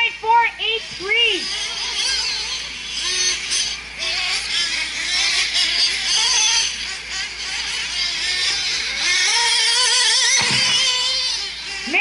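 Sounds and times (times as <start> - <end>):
rc truck engines whining: 0.0 - 12.0.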